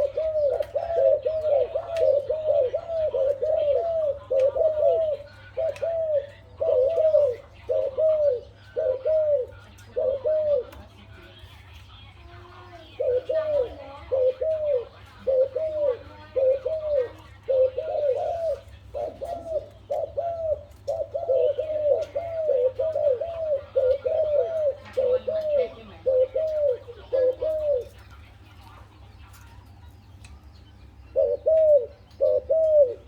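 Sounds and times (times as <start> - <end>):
dove cooing: 0.0 - 29.7, 30.3 - 33.0.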